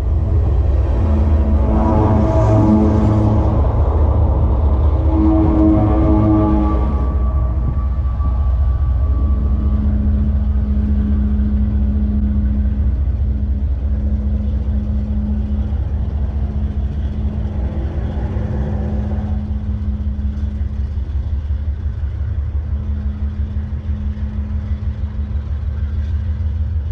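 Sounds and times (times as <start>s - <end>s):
diesel locomotive engine running: 0.0s - 26.9s.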